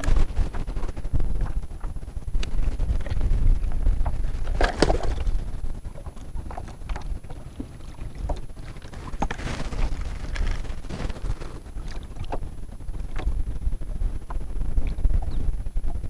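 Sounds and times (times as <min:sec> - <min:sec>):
water splashing and sloshing: 0:00.0 - 0:13.4
wind buffeting microphone: 0:00.0 - 0:16.0.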